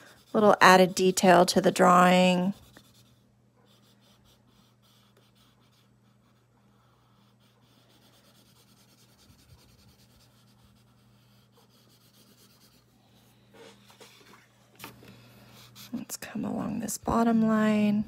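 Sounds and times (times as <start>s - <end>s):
pencil scratching on paper: 0.0s - 14.4s, 15.4s - 17.9s
low steady hum: 0.0s - 18.0s.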